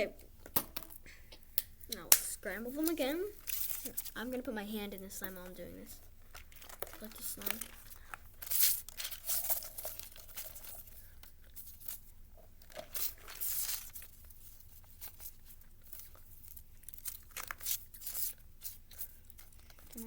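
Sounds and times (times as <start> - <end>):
paper rustling and crinkling: 2.8 - 4.4, 5.0 - 20.0.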